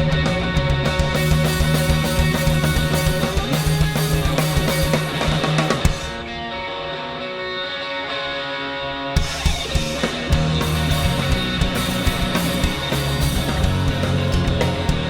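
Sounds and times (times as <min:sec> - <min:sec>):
drum kit: 0:00.0 - 0:06.4, 0:09.2 - 0:15.0
electric guitar: 0:00.0 - 0:15.0.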